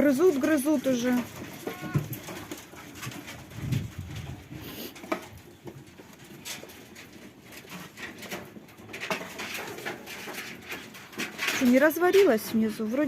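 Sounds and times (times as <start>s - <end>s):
animals gnawing and chewing: 0.0s - 12.3s.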